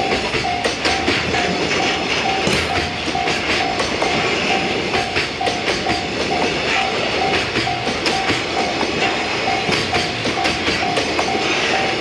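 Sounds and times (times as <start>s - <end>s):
train wheels clattering over rails: 0.0s - 12.0s.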